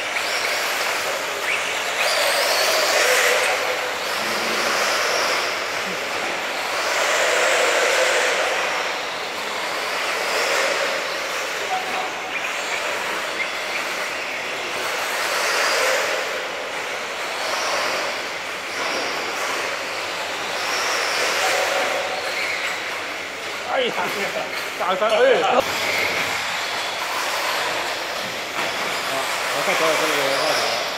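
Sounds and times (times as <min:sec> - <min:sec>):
electric rc cars passing: 0:00.0 - 0:30.9.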